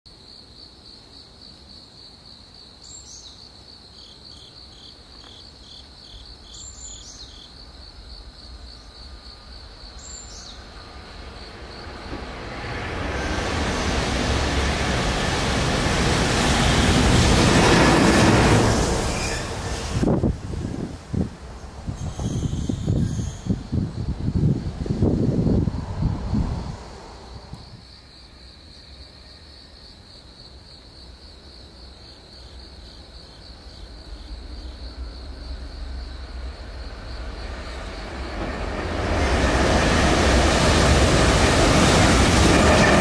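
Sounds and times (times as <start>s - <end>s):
freight train rumbling in tunnel: 4.1s - 43.0s.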